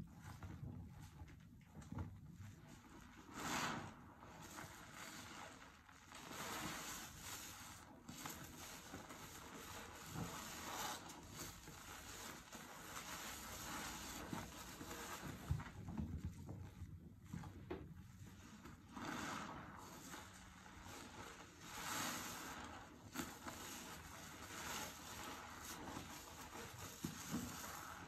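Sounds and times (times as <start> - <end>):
sponge squishing in soapy water: 0.0 - 28.0.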